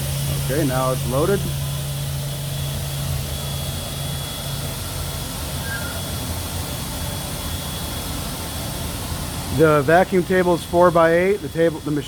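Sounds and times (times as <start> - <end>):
low hum: 0.0 - 12.0
vacuum pump and dust extraction hiss: 0.0 - 12.0.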